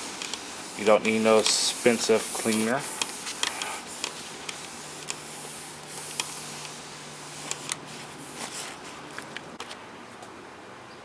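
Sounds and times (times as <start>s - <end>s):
paper towel wiping a screen: 0.0s - 9.6s.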